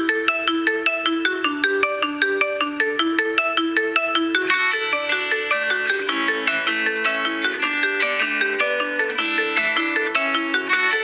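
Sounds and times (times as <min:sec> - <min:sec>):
phone ringtone melody: 0:00.0 - 0:11.0.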